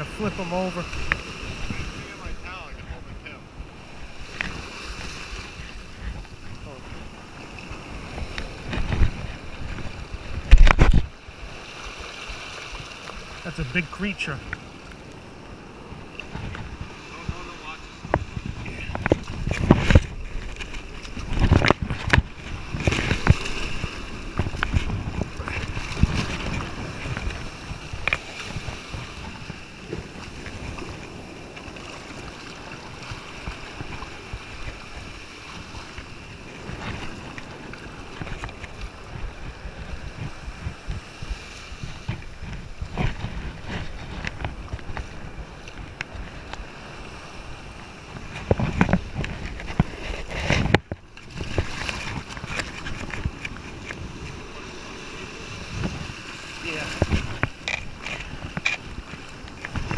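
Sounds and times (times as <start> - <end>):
wind buffeting microphone: 0.0 - 13.5, 14.3 - 59.9
shallow surf splashing: 0.0 - 59.9.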